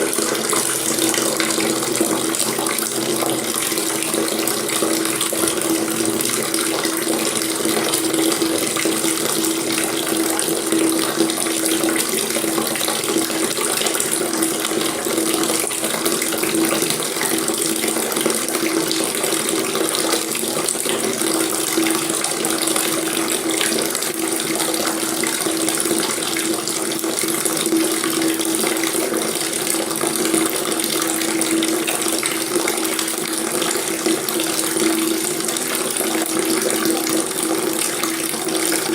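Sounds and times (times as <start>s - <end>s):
tap water splashing into basin: 0.0s - 38.9s.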